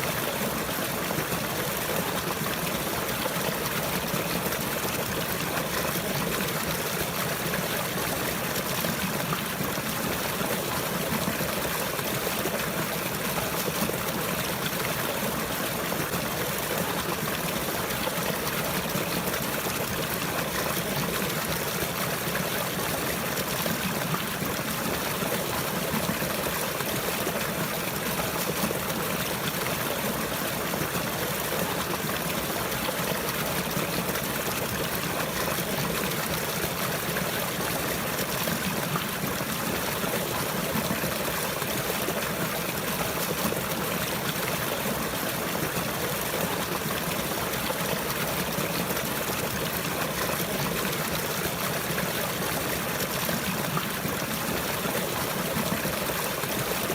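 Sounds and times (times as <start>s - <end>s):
running water: 0.0s - 56.9s.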